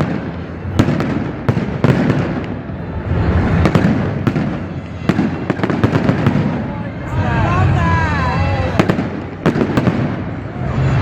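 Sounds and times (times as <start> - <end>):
fireworks bangs and crackles: 0.0 - 11.0
low background noise: 0.0 - 11.0.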